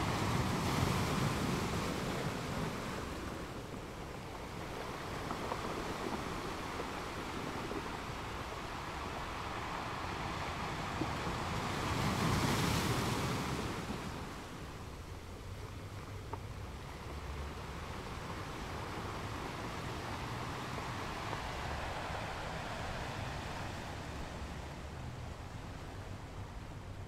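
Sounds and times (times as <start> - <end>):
waves crashing on rocky beach: 0.0 - 27.0.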